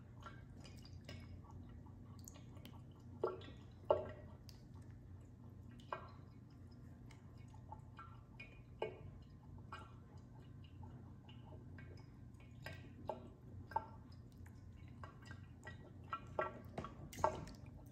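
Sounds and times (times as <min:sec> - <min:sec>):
cat lapping water: 0:00.0 - 0:17.9.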